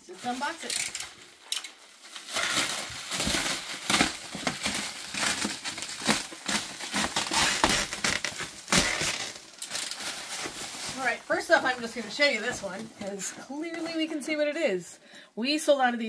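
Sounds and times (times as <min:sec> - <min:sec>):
plastic wrap crinkling: 0:00.0 - 0:14.7.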